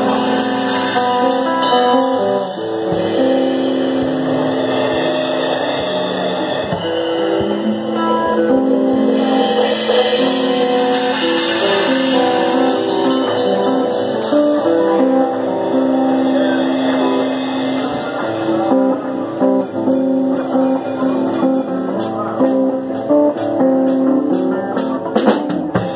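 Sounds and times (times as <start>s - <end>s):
electric guitars holding notes: 0.0s - 25.9s
live band playing amplified music: 0.0s - 25.9s.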